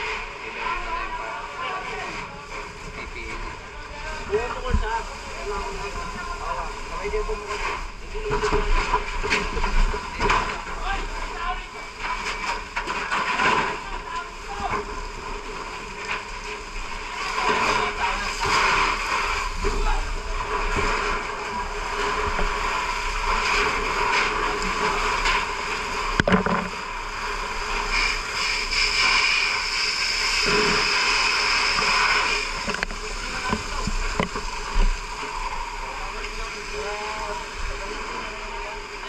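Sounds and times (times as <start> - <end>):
water spraying from fire hose: 0.0 - 39.0.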